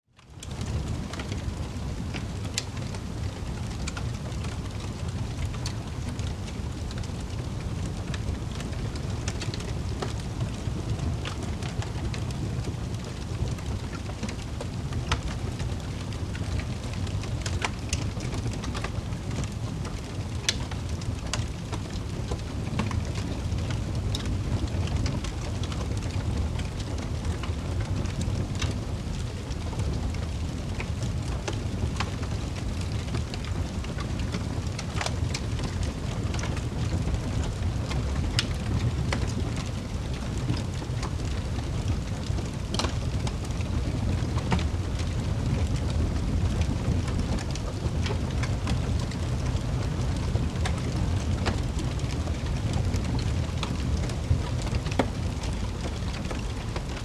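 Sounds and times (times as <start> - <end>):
wood fire crackling and popping: 0.2 - 57.0.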